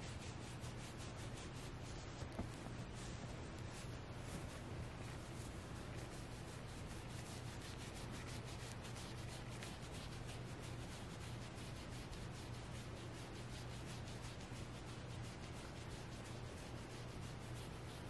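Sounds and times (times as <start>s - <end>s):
fingers scratching plush fabric: 0.0s - 18.0s
low steady hum: 0.0s - 18.0s.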